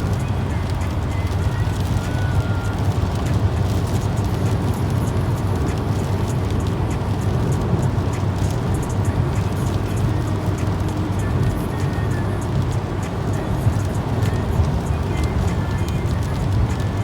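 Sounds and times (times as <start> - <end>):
road and engine rumble: 0.0 - 17.0
tyres hissing on wet road: 0.0 - 17.0.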